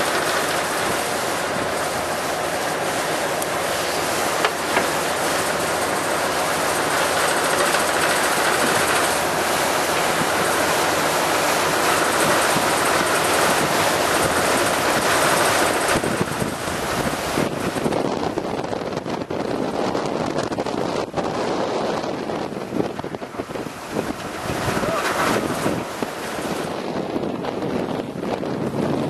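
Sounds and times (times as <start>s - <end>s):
water rushing past boat: 0.0s - 29.0s
wind on microphone: 0.0s - 29.0s.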